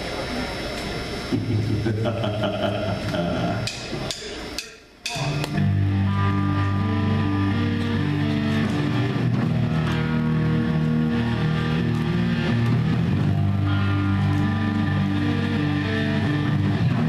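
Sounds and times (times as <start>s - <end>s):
drums: 0.0s - 17.0s
electric guitars: 0.8s - 4.2s, 5.1s - 17.0s
bass guitar: 1.3s - 4.2s, 5.0s - 17.0s.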